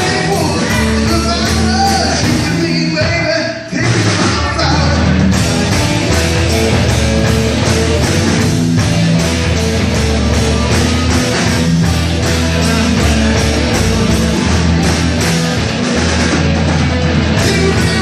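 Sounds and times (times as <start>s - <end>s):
loud instrumental rock music: 0.0s - 18.0s.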